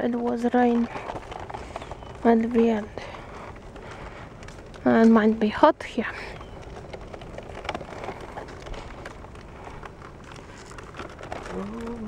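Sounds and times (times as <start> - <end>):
faint ticks and crackles: 0.0 - 12.0.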